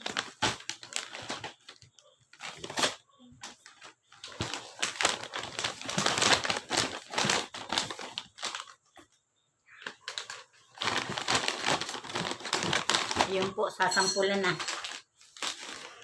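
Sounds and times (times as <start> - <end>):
plastic packaging crinkling: 0.0 - 9.1, 9.7 - 16.0.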